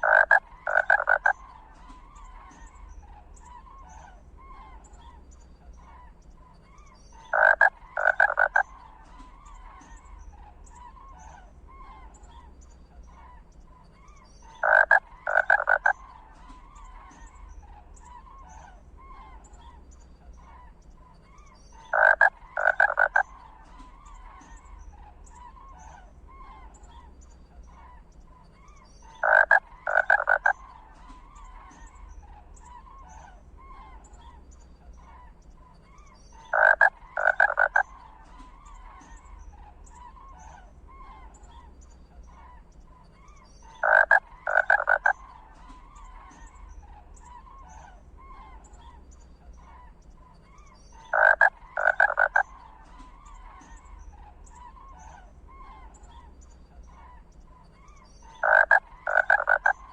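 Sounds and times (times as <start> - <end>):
harsh animal calls: 0.0 - 4.9, 6.8 - 12.5, 14.4 - 19.8, 21.4 - 59.9
chorus of small chirping calls: 0.0 - 59.9.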